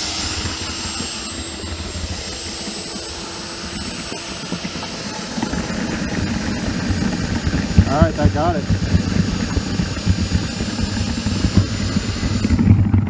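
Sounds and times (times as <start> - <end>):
high motor whine: 0.0 - 13.0
power drill boring through soil: 0.0 - 13.0.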